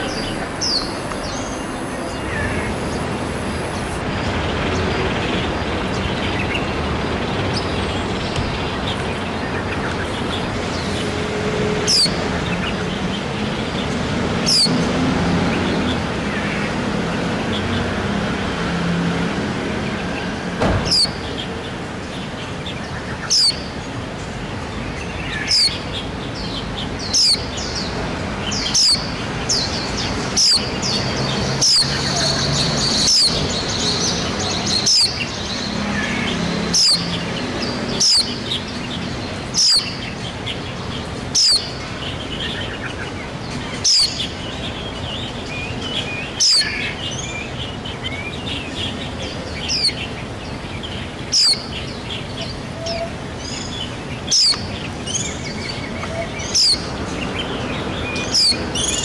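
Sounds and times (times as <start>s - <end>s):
soft bird twittering: 0.0s - 11.1s, 11.8s - 13.7s, 14.4s - 14.8s, 22.3s - 24.0s, 24.8s - 59.0s.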